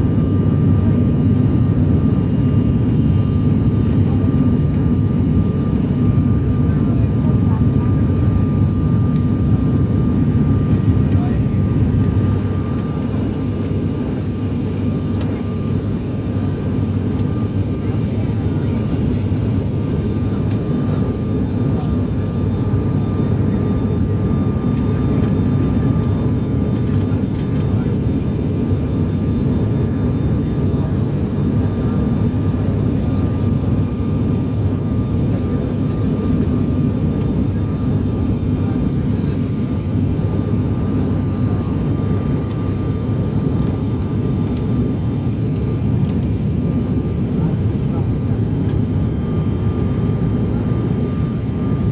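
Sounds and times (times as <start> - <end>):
aeroplane engines and airflow rumble: 0.0 - 51.9.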